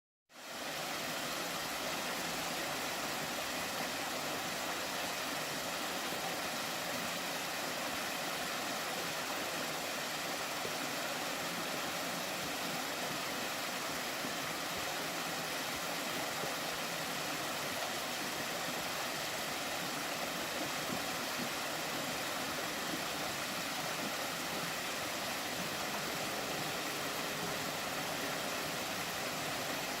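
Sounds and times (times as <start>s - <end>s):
waterfall rushing: 0.5s - 30.0s.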